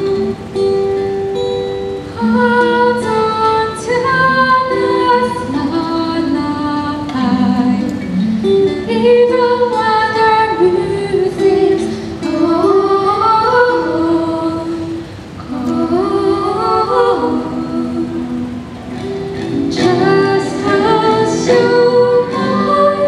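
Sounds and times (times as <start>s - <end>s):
acoustic guitar: 0.0s - 23.0s
girls singing into microphones: 2.1s - 23.0s.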